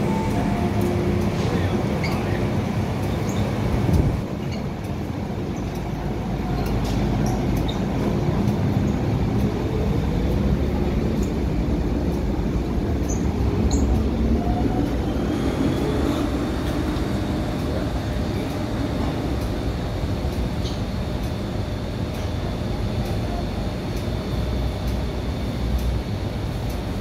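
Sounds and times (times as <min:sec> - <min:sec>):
train wheels rumbling on track: 0:00.0 - 0:27.0.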